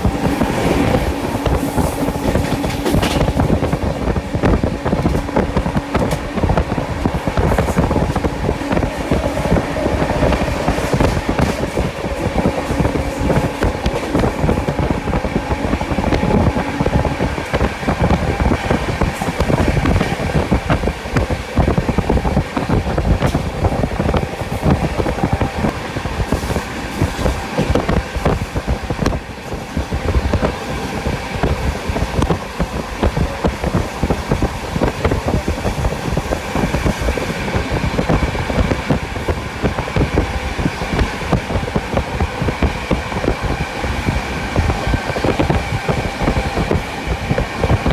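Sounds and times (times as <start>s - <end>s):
train wheels clattering over rail joints: 0.0s - 47.9s.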